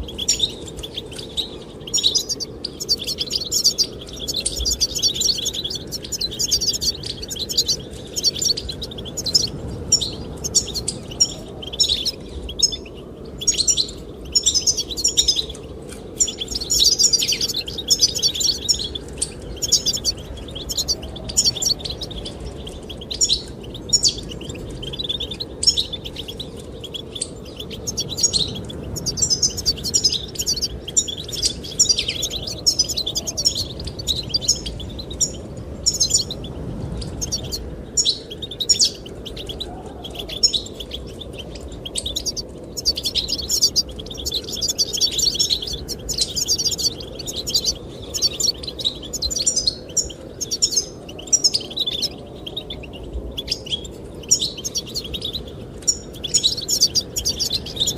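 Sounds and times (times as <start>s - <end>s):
goldfinch twittering song: 0.0s - 57.9s
low rush of wind: 0.0s - 57.9s.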